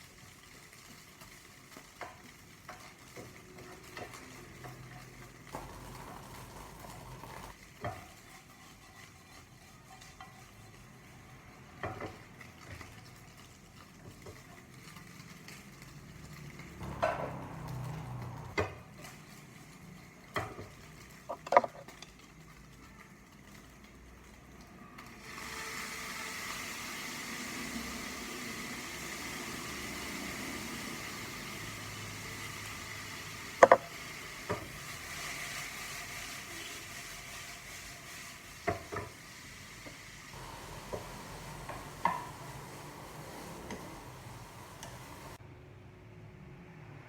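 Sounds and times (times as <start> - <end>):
sizzling hiss: 0.0 - 21.2, 23.4 - 45.4.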